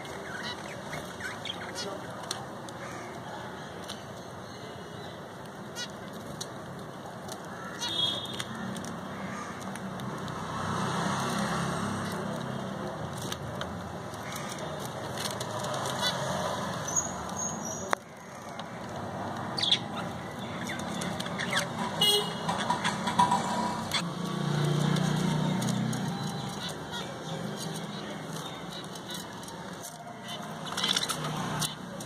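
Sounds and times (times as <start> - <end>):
lovebirds chirping: 0.0 - 32.0.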